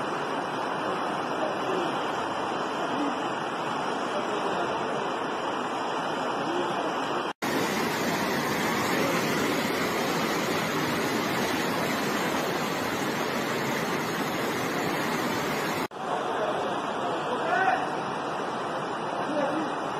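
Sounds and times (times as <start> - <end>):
floodwater rushing: 0.0 - 19.9.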